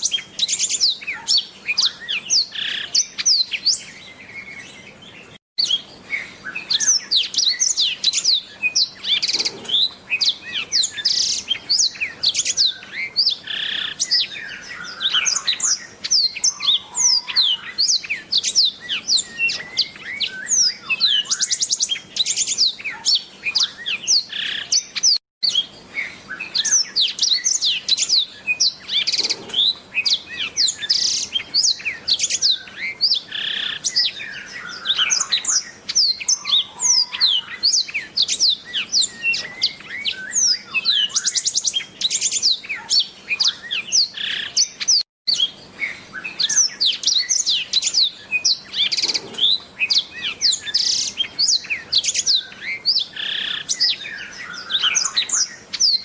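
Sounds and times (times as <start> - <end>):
canary singing whistles and trills: 0.0 - 56.0.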